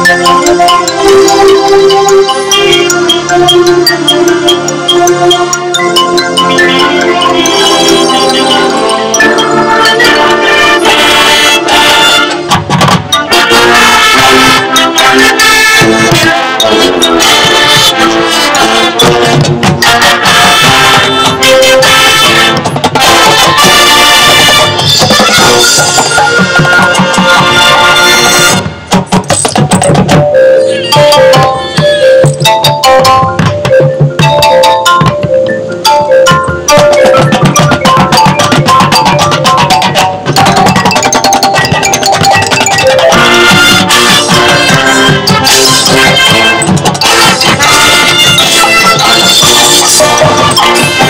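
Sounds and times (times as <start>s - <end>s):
marching band brass music: 0.0s - 51.0s
percussion strokes: 0.0s - 51.0s.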